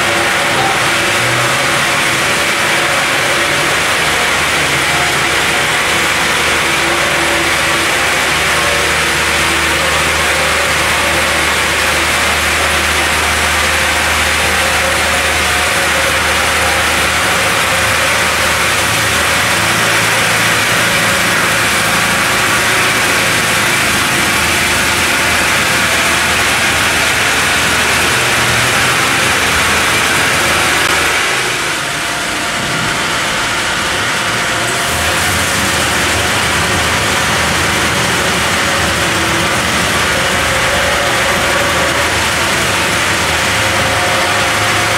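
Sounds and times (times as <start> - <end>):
band saw cutting log: 0.0 - 44.9.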